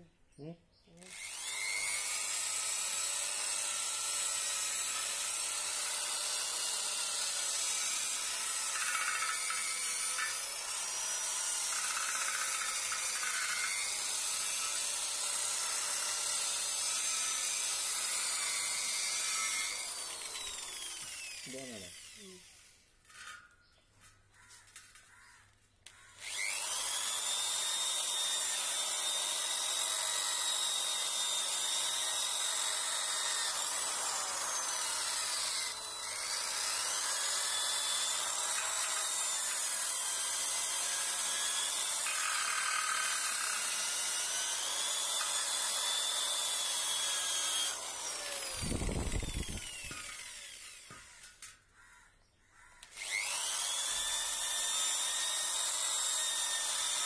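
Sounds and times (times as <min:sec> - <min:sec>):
drill grinding rust: 0:01.0 - 0:25.3, 0:25.9 - 0:51.9, 0:52.8 - 0:57.0.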